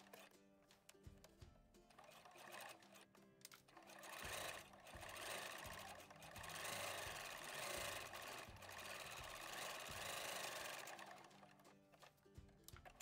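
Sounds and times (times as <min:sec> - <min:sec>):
sewing machine stitching: 0:00.0 - 0:00.3, 0:01.9 - 0:13.0.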